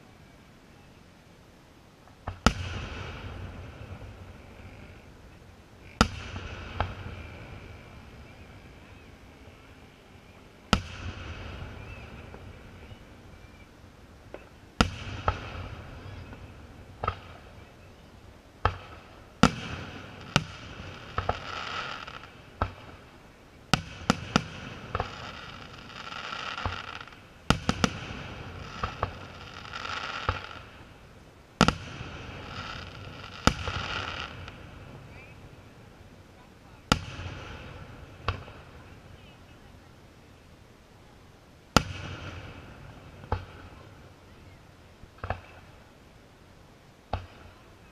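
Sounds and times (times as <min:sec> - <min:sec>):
fireworks booming: 0:02.1 - 0:39.8, 0:41.7 - 0:45.9.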